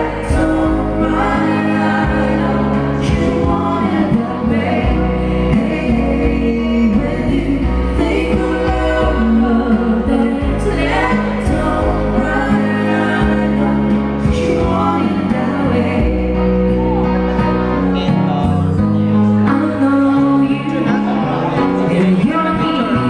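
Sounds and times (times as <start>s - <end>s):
live band playing with singer: 0.0s - 23.0s.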